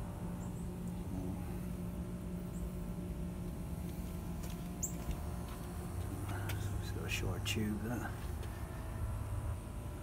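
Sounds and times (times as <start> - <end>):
constant pitched drone: 0.0 - 10.0
low background hum: 0.0 - 10.0.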